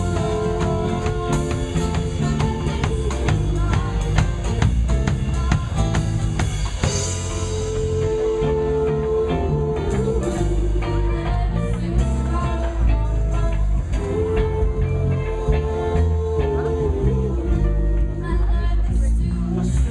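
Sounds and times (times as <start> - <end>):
drum kit beat: 0.0 - 18.1
bass guitar: 0.0 - 19.9
electric guitar: 0.0 - 19.9.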